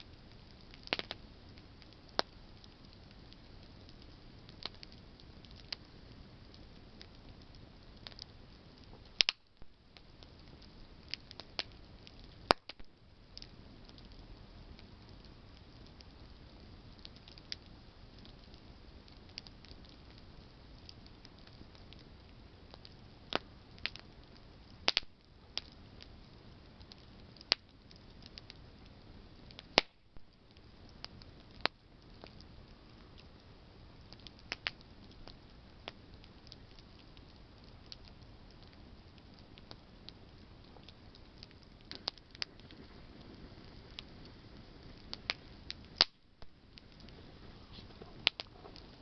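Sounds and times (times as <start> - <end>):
campfire hissing: 0.0 - 49.0
campfire pops and snaps: 0.0 - 49.0.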